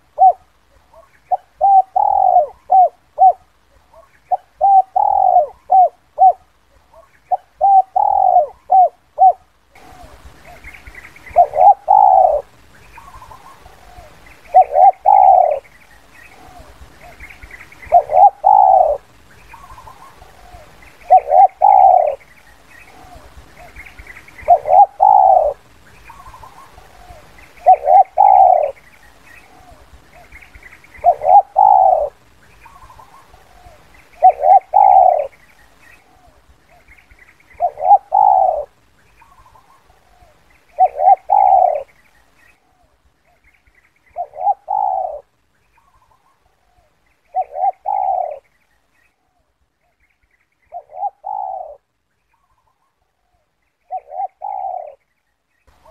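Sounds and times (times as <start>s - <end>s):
doves cooing: 0.0s - 42.0s, 44.1s - 48.5s, 50.6s - 55.0s
small birds chirping: 0.0s - 55.9s.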